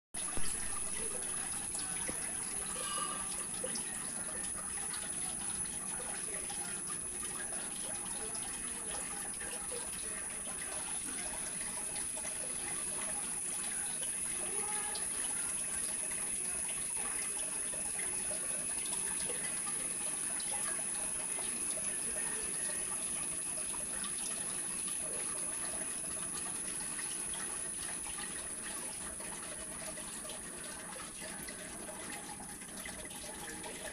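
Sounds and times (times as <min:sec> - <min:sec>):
water trickling and splashing: 0:00.2 - 0:33.9.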